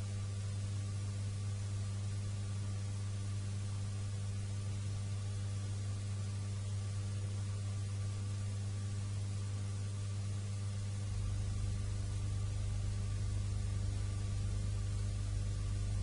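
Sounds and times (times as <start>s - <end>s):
low electrical hum with hiss: 0.0s - 16.0s.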